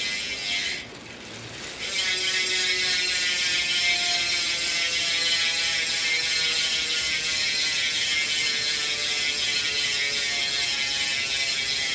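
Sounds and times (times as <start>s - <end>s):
bicycle hub ratcheting buzz: 0.0s - 11.9s.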